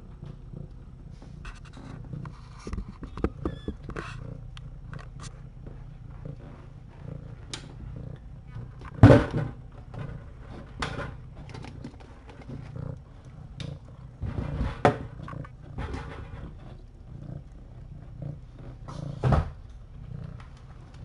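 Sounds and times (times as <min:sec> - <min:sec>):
bumps and rustles: 0:00.0 - 0:17.1
cat purring: 0:00.0 - 0:21.0.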